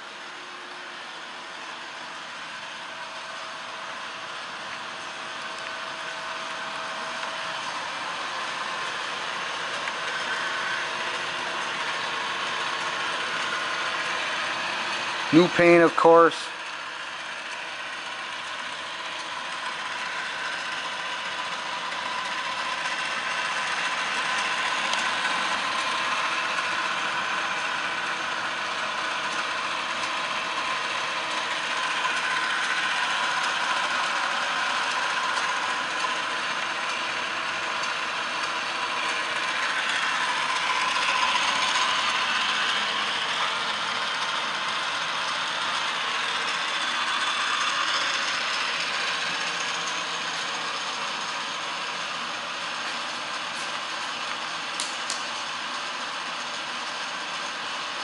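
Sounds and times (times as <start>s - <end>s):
lathe whirring with gear whine: 0.0s - 58.0s.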